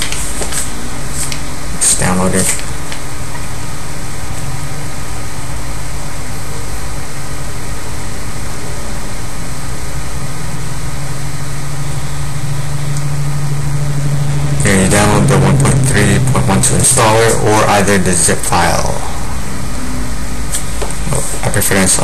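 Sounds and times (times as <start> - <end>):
machine-like hum and hiss: 0.0 - 22.0.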